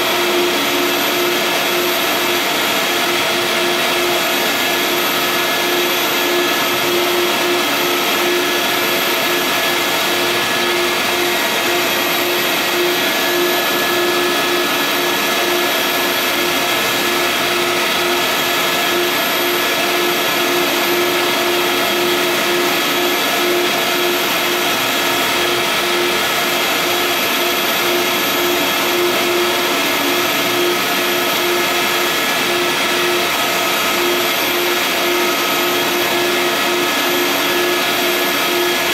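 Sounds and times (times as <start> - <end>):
printer machine whir: 0.0 - 38.9
pulsing hum: 0.0 - 38.9.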